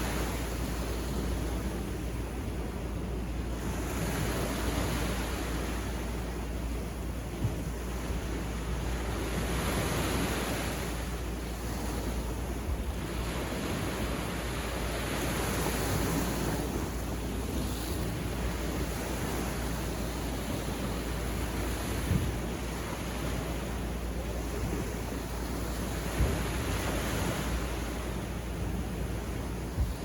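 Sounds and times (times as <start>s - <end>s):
surf breaking on a beach: 0.0s - 30.0s
wind rumble on microphone: 0.0s - 30.0s.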